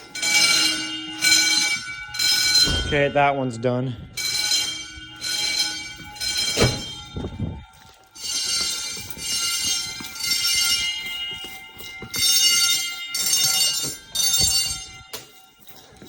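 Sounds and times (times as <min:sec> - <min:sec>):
fire alarm bells ringing: 0:00.0 - 0:16.0.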